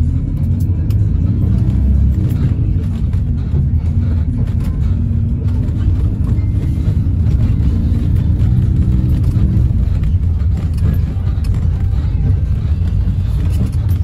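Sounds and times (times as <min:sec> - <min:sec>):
bus engine and road noise: 0:00.0 - 0:14.0
faint engine hum: 0:00.0 - 0:14.0.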